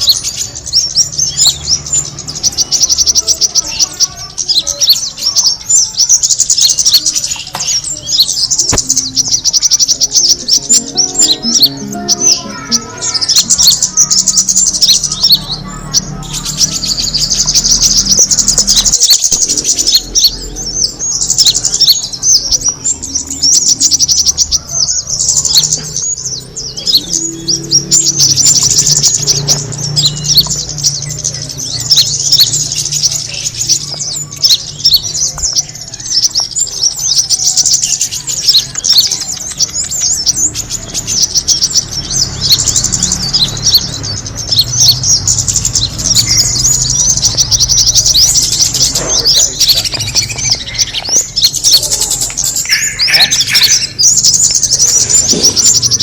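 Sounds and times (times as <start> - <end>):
bird call chirps and trills: 0.0 - 56.0.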